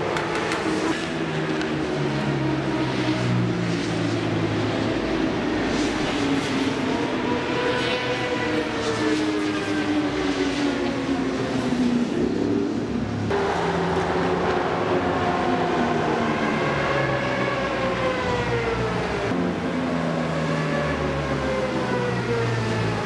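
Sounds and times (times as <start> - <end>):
racing vehicle engines passing: 0.0 - 23.0.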